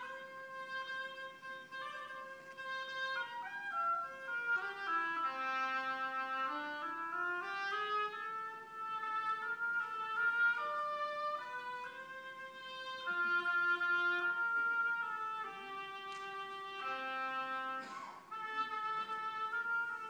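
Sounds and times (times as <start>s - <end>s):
wind ensemble playing slow melody: 0.0s - 20.0s.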